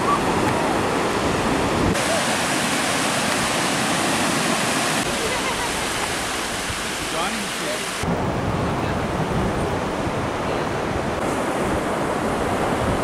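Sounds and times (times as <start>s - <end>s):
wind on microphone: 0.0s - 7.1s, 8.0s - 13.0s
surf breaking on beach: 0.0s - 13.0s.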